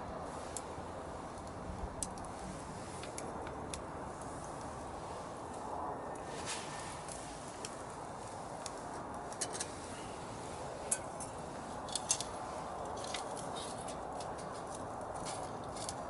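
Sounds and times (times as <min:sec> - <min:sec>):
steady background hiss: 0:00.0 - 0:16.0
wood fire crackling: 0:00.0 - 0:16.0.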